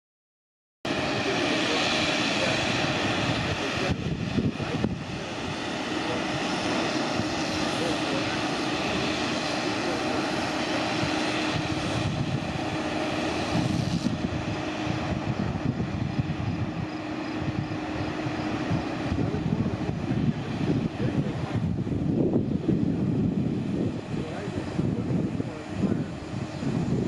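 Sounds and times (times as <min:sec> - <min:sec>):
engine drone: 0:00.9 - 0:27.0.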